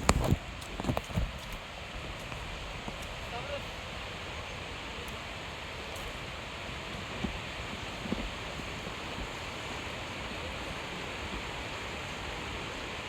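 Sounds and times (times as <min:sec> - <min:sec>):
rushing outdoor noise: 0:00.0 - 0:13.0.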